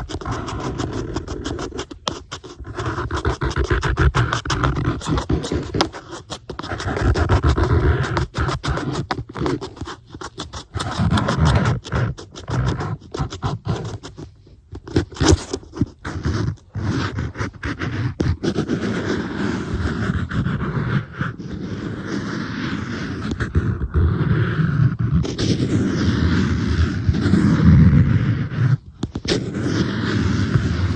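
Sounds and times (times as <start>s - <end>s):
tapping and scratching on tablet: 0.0s - 30.9s.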